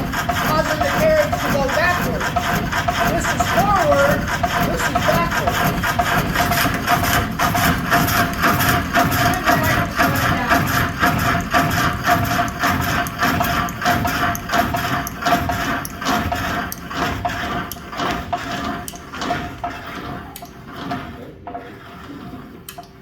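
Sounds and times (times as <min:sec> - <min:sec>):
constant machine hum: 0:00.0 - 0:23.0
jig saw knocking: 0:00.0 - 0:23.0.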